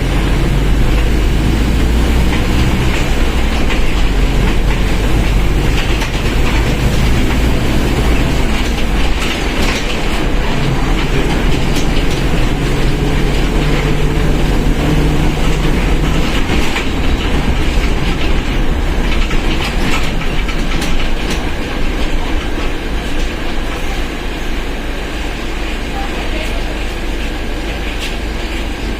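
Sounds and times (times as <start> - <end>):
rattles and knocks: 0.0 - 23.8
bus engine rumbling: 0.0 - 28.9.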